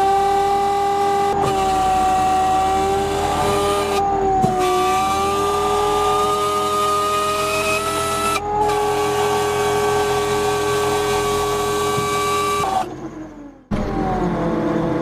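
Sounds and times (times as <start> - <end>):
high-pitched motor whine: 0.0 - 15.0.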